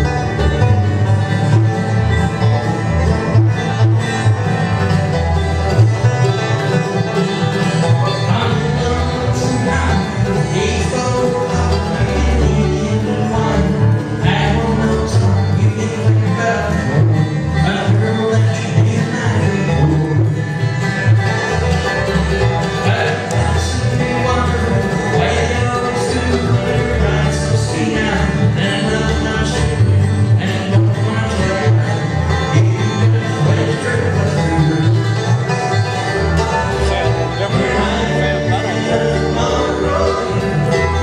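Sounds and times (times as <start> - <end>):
acoustic guitar: 0.0 - 41.0
banjo: 0.0 - 41.0
mandolin: 0.0 - 41.0
plucked bass line: 0.0 - 41.0.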